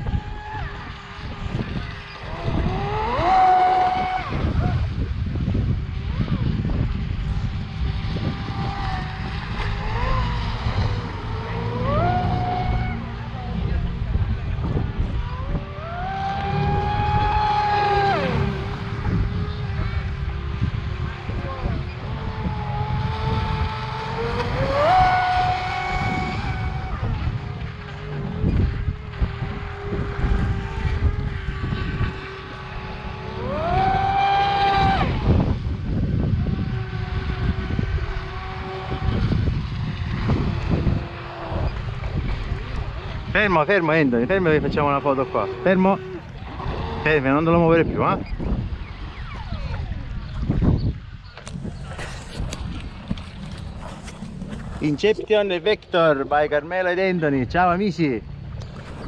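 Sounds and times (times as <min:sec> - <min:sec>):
electric motor whining: 0:00.0 - 0:52.1
low rumble: 0:00.0 - 0:59.0.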